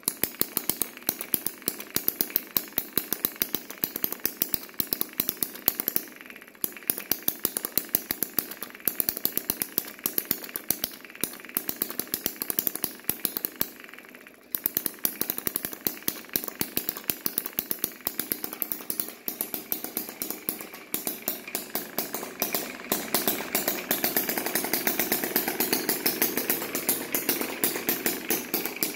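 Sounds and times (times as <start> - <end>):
small engine popping: 0.0 - 28.9.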